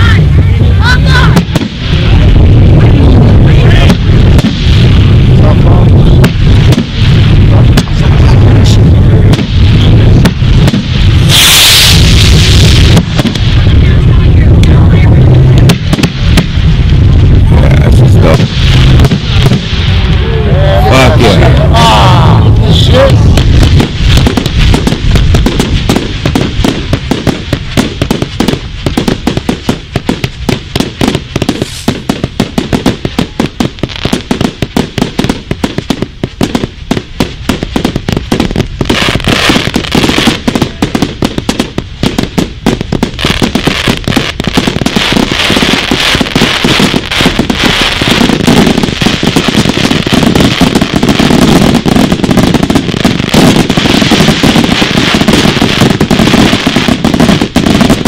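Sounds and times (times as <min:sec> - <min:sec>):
fireworks banging in rapid barrage: 0:00.0 - 0:58.0.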